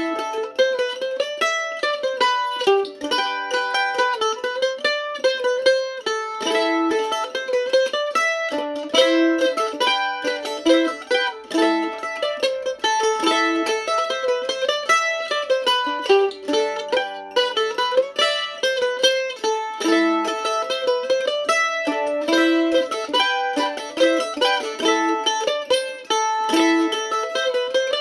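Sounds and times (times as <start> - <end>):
mandolin melody: 0.0 - 28.0.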